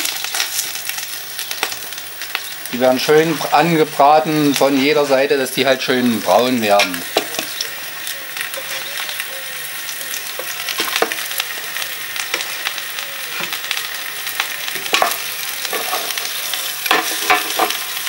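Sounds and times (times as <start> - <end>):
crackling spatters: 0.0 - 18.0
meat sizzling in hot oil: 0.0 - 18.0.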